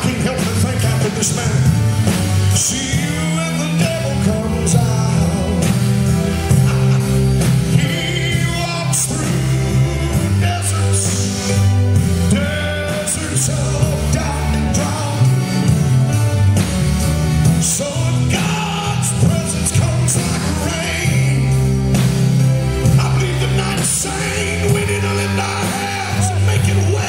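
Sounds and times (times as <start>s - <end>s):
drums and cymbals: 0.0s - 27.0s
low bass notes: 0.0s - 27.0s
praise band playing: 0.0s - 27.0s.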